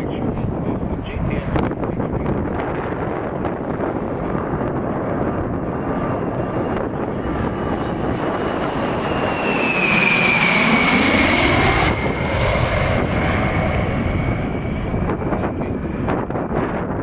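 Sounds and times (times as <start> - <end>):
military jet passing by: 0.0 - 17.0.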